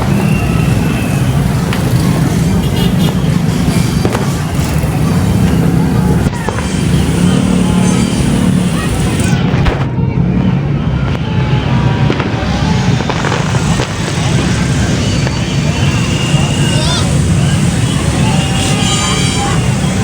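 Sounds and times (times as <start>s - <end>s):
firecracker pops: 0.0s - 16.8s
vehicle engines running: 0.0s - 20.0s
voices: 0.0s - 20.0s.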